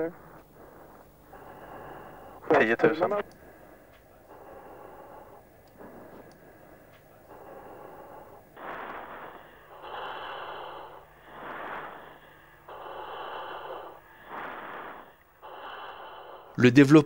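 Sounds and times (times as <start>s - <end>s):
breathing through oxygen mask: 0.0s - 16.6s.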